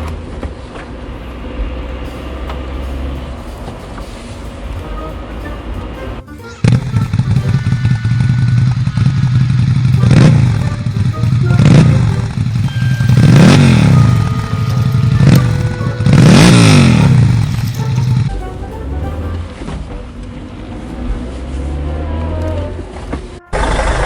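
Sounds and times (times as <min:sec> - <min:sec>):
vehicles zooming past: 0:00.0 - 0:24.0.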